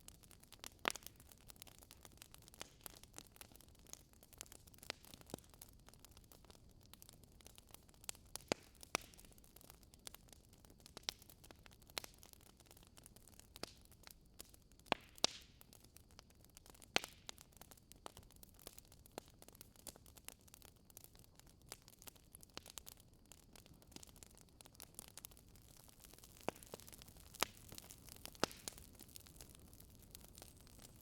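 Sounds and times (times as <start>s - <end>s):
burning log crackling: 0.0s - 31.0s
faint steady hiss: 3.7s - 31.0s.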